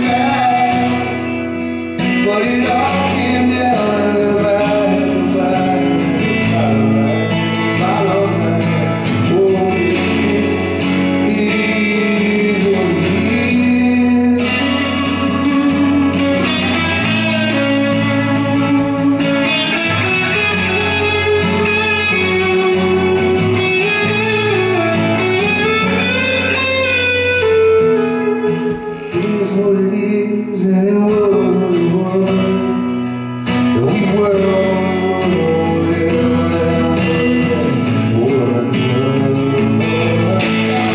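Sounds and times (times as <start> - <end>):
electric and acoustic guitars: 0.0 - 40.9
man singing: 0.0 - 40.9.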